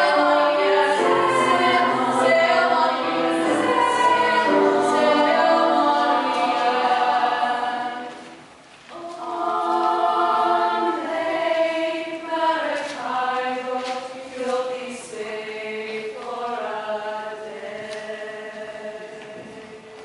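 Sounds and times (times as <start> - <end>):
girls singing in harmony: 0.0 - 20.0.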